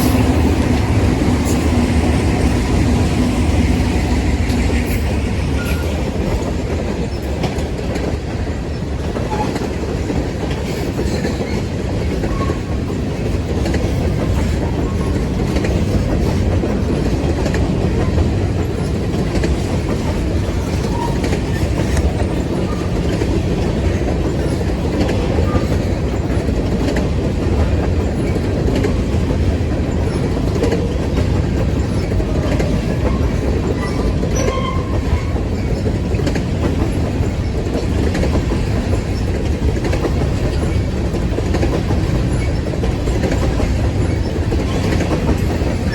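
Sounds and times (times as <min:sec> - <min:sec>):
freight train rumbling past: 0:00.0 - 0:45.9
wheels clicking over rail joints: 0:03.7 - 0:45.9.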